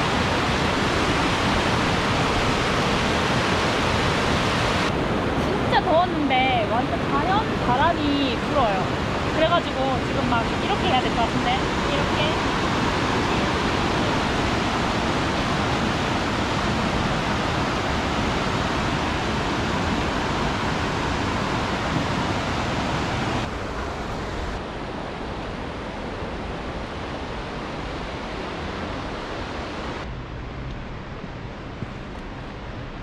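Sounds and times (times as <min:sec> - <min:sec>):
creek rushing over rapids: 0:00.0 - 0:30.2.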